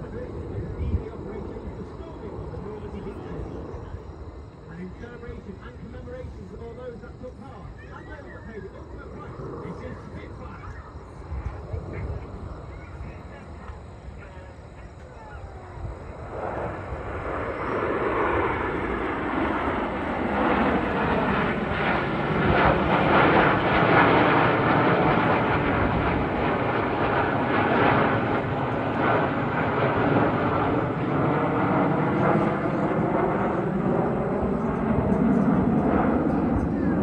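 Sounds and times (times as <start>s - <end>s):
jets roaring overhead: 0.0s - 37.0s.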